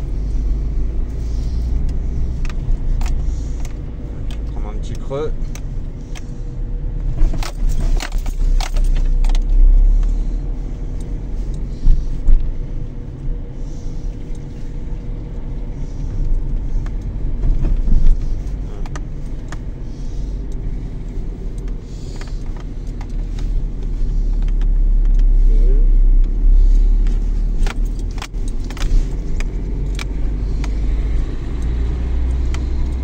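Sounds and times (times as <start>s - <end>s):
car road rumble: 0.0s - 33.0s
suspension clunks and rattles: 0.0s - 33.0s.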